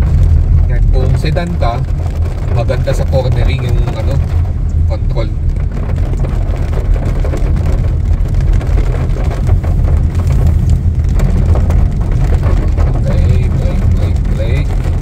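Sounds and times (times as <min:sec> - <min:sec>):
car engine and tyre rumble: 0:00.0 - 0:15.0
rain ticking on car: 0:00.0 - 0:15.0.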